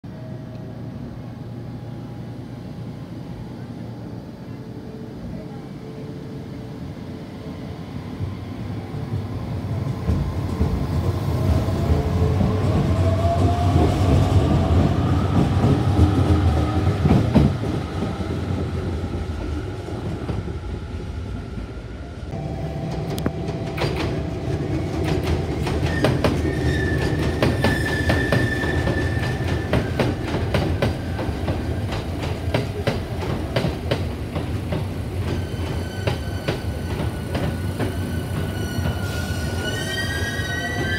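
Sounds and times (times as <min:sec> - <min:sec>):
train wheels rumbling: 0:07.8 - 0:40.9.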